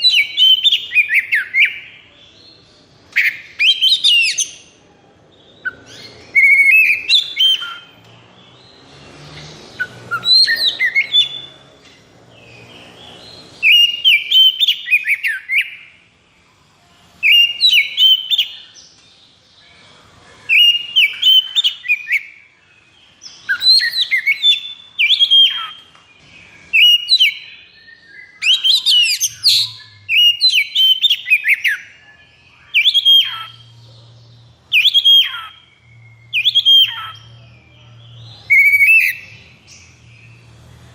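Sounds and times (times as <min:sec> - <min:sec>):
bird singing whistles and trills: 0:00.0 - 0:02.2, 0:03.1 - 0:04.8, 0:05.4 - 0:08.6, 0:09.7 - 0:11.7, 0:12.3 - 0:16.0, 0:17.2 - 0:19.0, 0:20.4 - 0:40.6.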